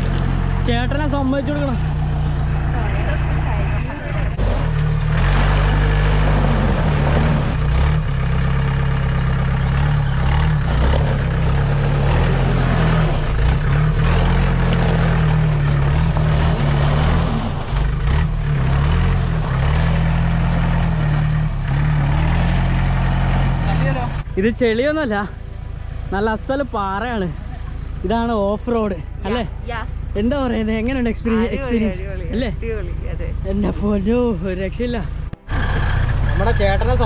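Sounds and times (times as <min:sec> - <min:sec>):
off-road vehicle engine labouring: 0:00.0 - 0:37.0.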